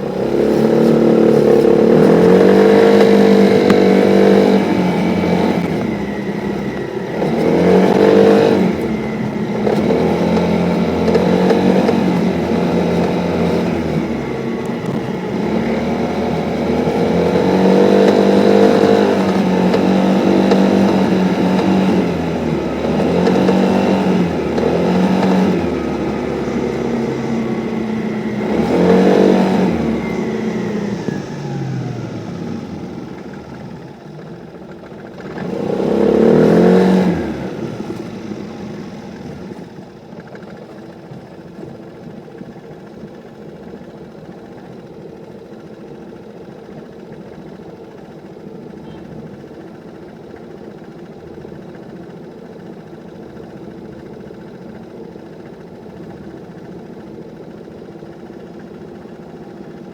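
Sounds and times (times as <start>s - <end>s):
scooter engine revving and idling: 0.0s - 59.9s.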